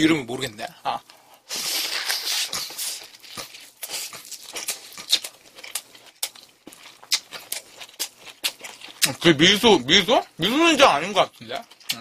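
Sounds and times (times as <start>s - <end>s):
person chewing: 1.0s - 10.5s, 11.2s - 12.0s.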